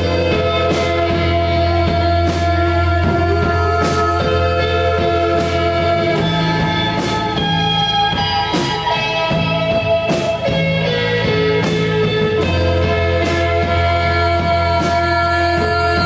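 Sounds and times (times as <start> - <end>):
bass guitar: 0.0 - 16.0
electric guitar: 0.0 - 16.0.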